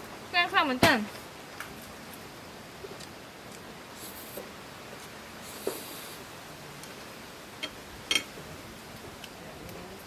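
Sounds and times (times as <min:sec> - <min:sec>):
background hiss: 0:00.0 - 0:10.0.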